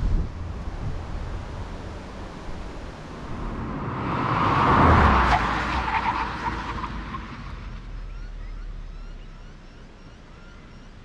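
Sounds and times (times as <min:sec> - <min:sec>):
car driving off: 0:00.0 - 0:11.0.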